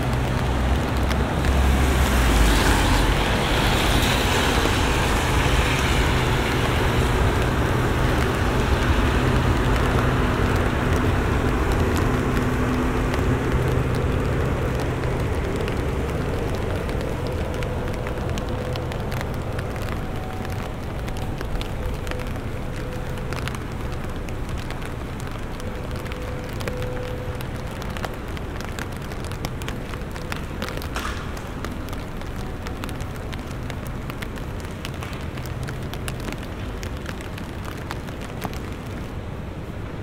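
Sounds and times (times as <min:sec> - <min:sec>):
low engine hum: 0:00.0 - 0:40.0
steady rain: 0:00.0 - 0:40.0
tyre hiss on wet street: 0:00.0 - 0:40.0.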